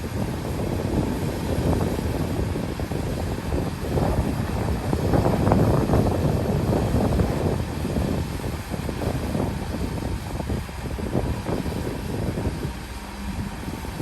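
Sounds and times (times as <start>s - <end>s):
heavy diesel machinery rumbling: 0.0s - 14.0s.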